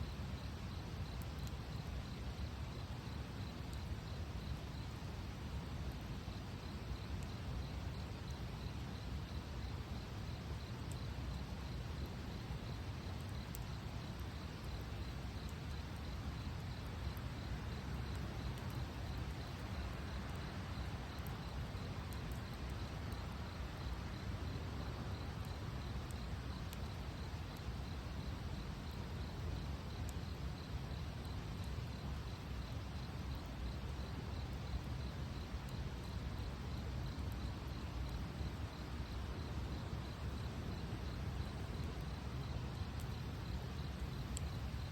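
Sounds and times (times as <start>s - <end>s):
campfire crackling and popping: 0.2s - 44.8s.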